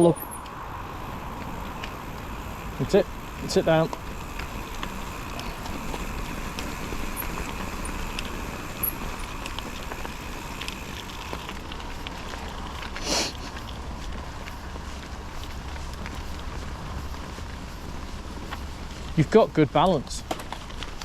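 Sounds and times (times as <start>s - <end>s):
bicycle tyres rolling: 0.0s - 21.0s.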